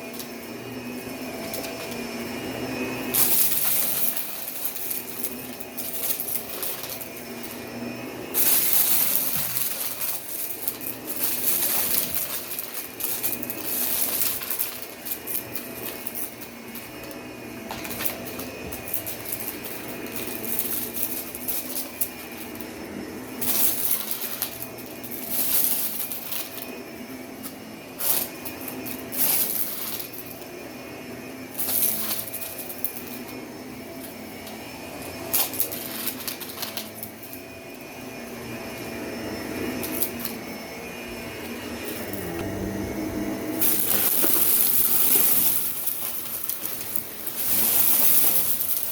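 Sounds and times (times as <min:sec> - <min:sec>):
vacuum cleaner running on carpet: 0:00.0 - 0:48.9.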